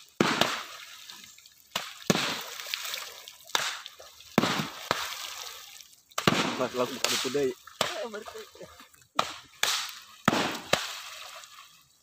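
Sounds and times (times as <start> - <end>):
poles slapping water: 0.0 - 12.0
water splashing: 0.0 - 12.0.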